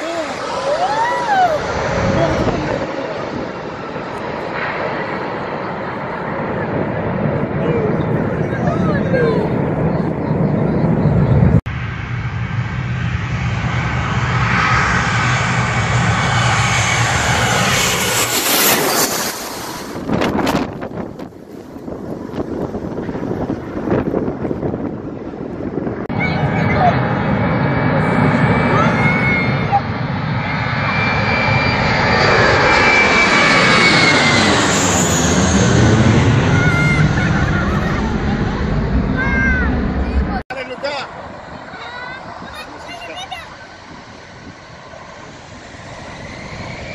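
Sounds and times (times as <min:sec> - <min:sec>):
aircraft engines at takeoff power: 0:00.0 - 0:46.9
jet engines on approach: 0:00.0 - 0:46.9
rising engine whine: 0:00.0 - 0:46.9.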